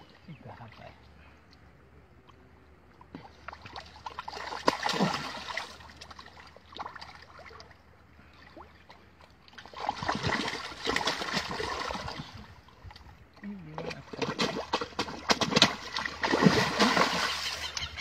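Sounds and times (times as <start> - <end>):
fish thrashing and water splashing: 3.0 - 18.0.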